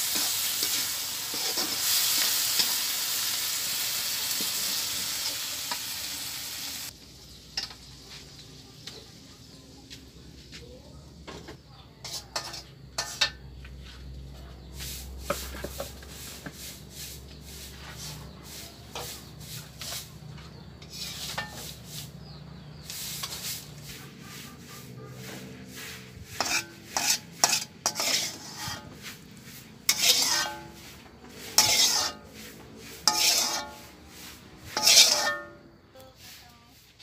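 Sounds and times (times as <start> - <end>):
metal spatula scraping in wok: 0.0 - 9.5, 11.3 - 13.6, 14.6 - 37.0.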